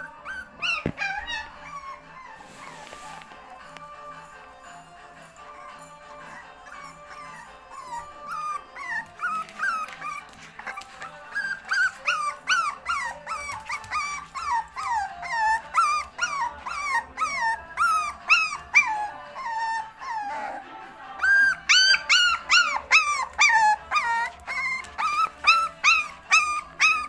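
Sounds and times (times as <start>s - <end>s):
puppy crying: 0.0s - 3.2s, 5.4s - 27.0s.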